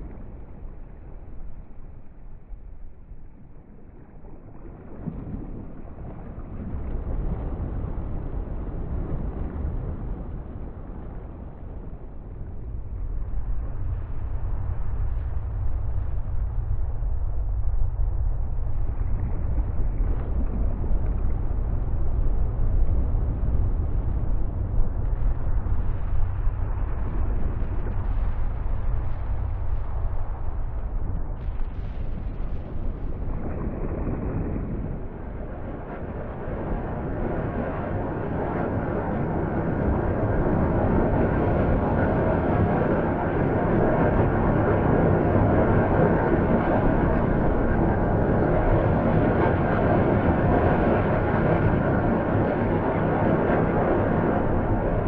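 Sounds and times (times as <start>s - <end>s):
deep noisy rumble: 5.0s - 55.0s.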